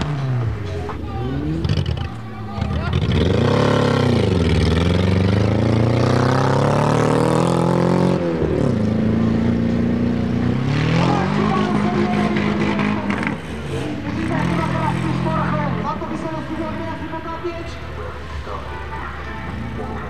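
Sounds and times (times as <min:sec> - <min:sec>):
race engine at high revs: 0:00.0 - 0:20.0.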